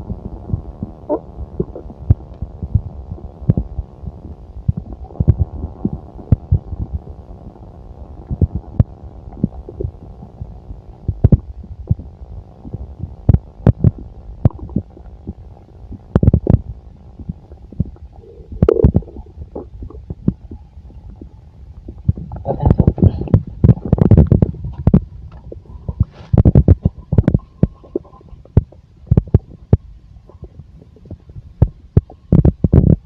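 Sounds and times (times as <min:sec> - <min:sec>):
stomach gurgle: 0:00.0 - 0:33.0
stomach rumbling: 0:00.0 - 0:33.0.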